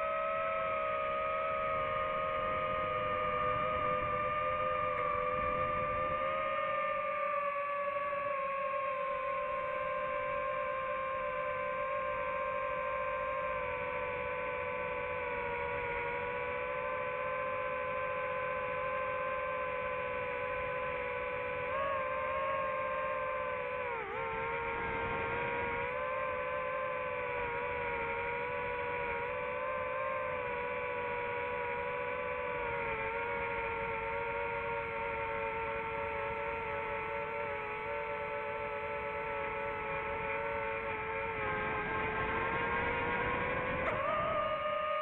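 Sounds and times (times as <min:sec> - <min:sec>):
drone propellers whining: 0:00.0 - 0:45.0.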